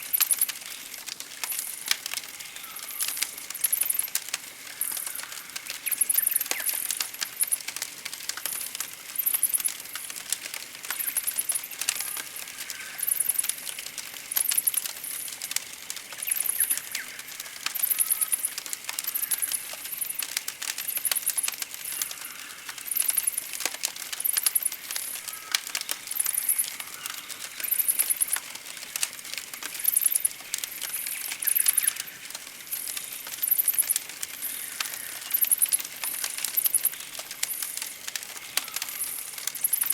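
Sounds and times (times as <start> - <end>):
campfire crackling and popping: 0.0 - 39.9
faint birdsong: 0.1 - 7.7, 14.3 - 23.6, 24.2 - 39.9.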